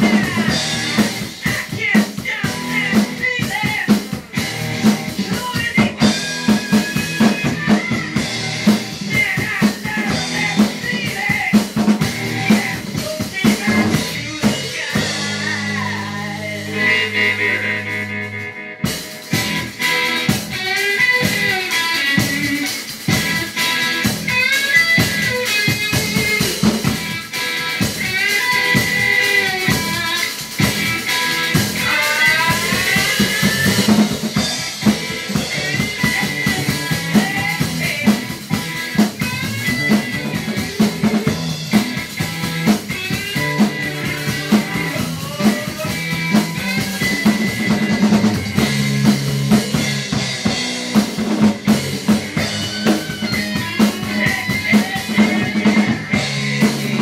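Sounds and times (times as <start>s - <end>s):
electric guitar: 0.0s - 57.0s
rock drum kit playing: 0.0s - 57.0s.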